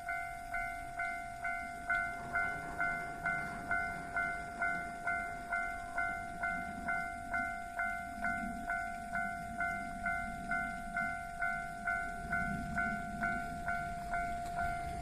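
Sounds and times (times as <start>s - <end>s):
approaching train rumble: 0.0s - 15.0s
level-crossing warning bell: 0.0s - 15.0s.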